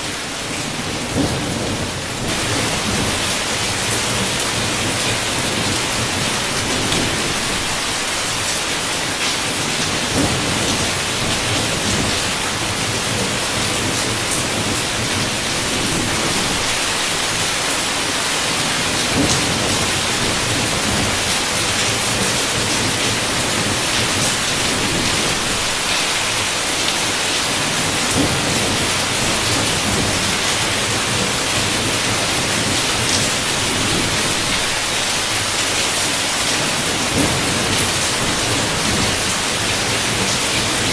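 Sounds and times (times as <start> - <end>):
heavy rain on a window: 0.0 - 40.9
rumble of thunder: 0.8 - 7.9, 9.5 - 17.4, 18.6 - 26.5, 27.5 - 35.0, 36.6 - 40.9.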